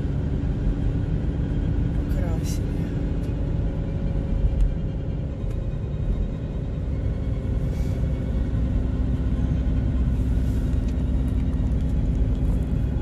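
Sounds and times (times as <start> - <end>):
car engine and tyre rumble: 0.0 - 13.0
steady low hum: 0.0 - 13.0.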